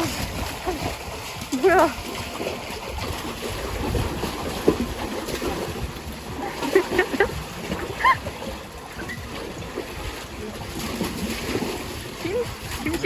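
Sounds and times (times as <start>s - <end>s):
steady low rumble: 0.0s - 13.0s
water splashing and sloshing: 0.0s - 13.0s.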